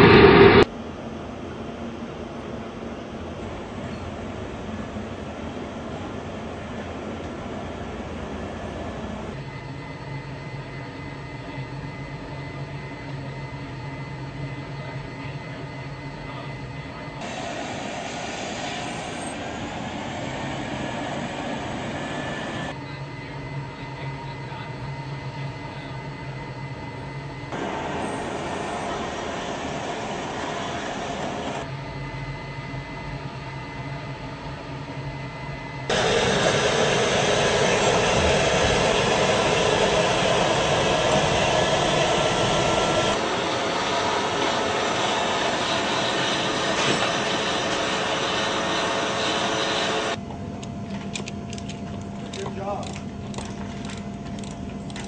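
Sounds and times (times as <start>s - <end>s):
tank turbine engine whine and rumble: 0.0s - 55.0s.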